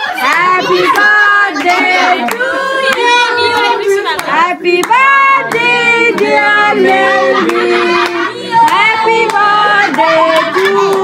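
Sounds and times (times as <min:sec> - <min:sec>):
children and women singing: 0:00.0 - 0:11.0.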